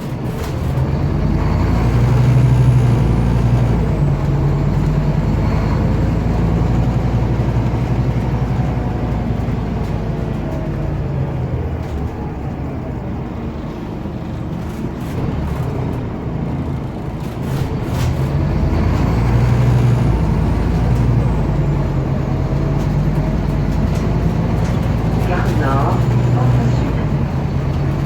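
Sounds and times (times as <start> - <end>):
bus diesel engine humming: 0.0 - 28.0.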